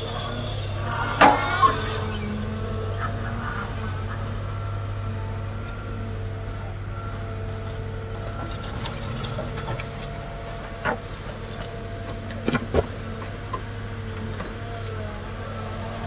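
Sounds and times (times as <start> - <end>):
excavator diesel engine running: 0.0 - 16.0
steady whining tones: 0.0 - 16.0.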